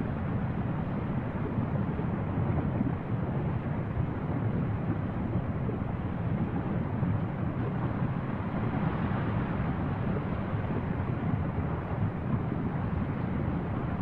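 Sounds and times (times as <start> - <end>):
volcanic vent rumbling: 0.0 - 14.0.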